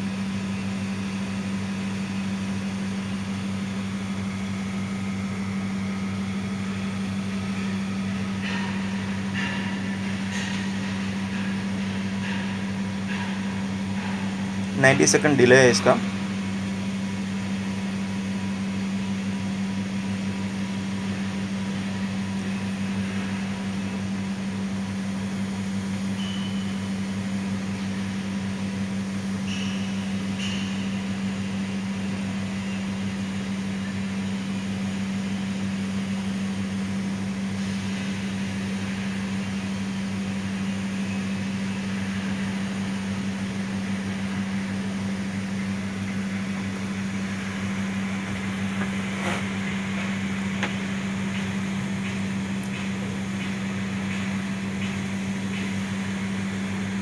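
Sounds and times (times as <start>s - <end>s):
contactor coil humming: 0.0s - 57.0s.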